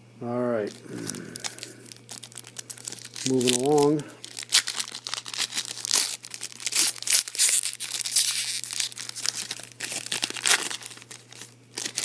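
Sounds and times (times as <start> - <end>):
card pack wrappers crinkling: 0.6 - 12.0.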